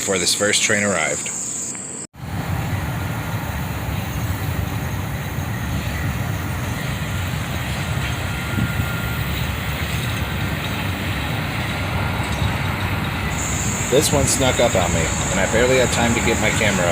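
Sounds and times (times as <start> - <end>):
diesel train passing rumble: 2.2 - 16.9.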